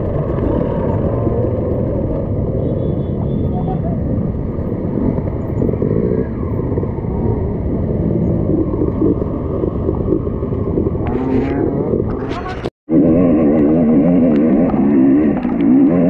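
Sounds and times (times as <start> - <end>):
motorcycle engines idling and revving: 0.0 - 16.0.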